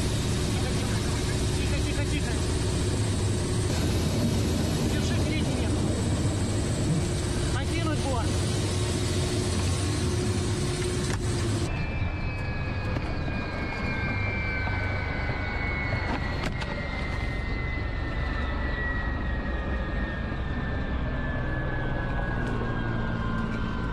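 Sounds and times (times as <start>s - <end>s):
helicopter cockpit noise in flight: 0.0s - 23.9s
helicopter turbine whine winding down: 0.0s - 23.9s.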